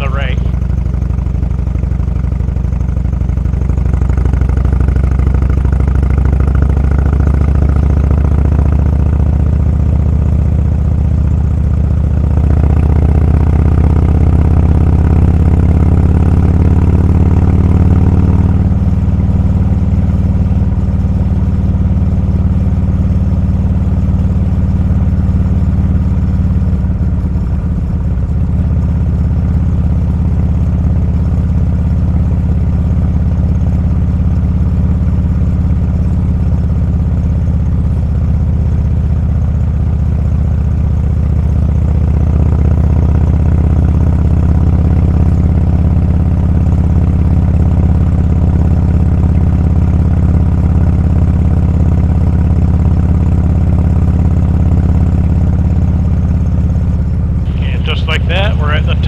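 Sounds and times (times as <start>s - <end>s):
motorcycle engine under load: 0.0s - 59.0s.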